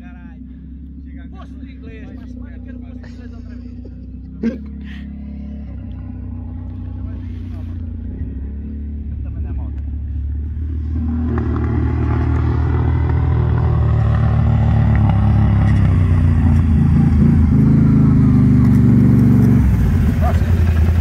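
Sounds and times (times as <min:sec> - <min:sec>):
quad bike engine pulling hard: 0:01.5 - 0:21.0.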